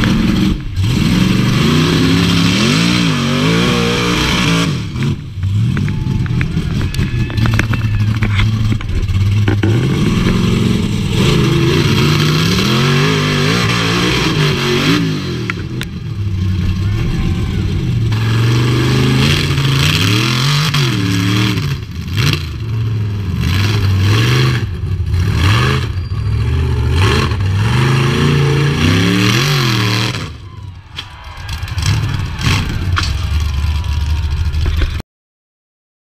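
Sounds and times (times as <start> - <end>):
buggy engine revving: 0.0 - 35.0.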